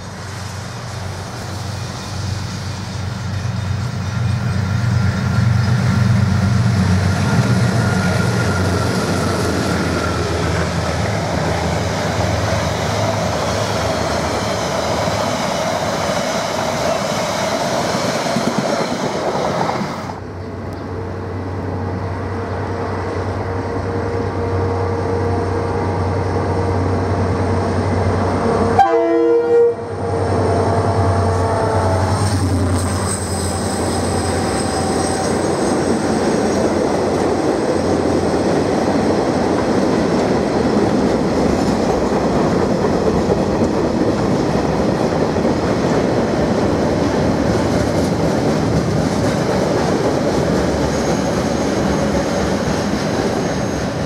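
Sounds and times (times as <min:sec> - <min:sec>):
diesel locomotive engines: 0:00.0 - 0:54.0.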